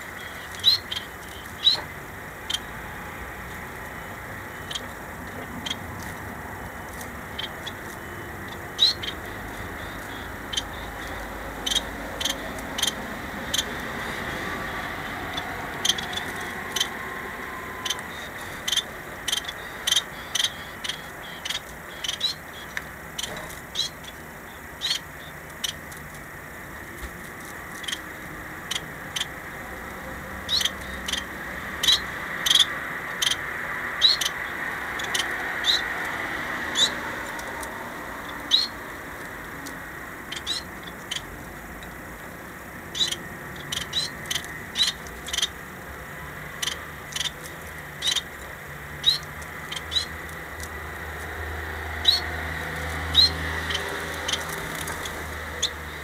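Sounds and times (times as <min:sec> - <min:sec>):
finches chirping: 0:00.0 - 0:56.0
steady background noise: 0:00.0 - 0:56.0.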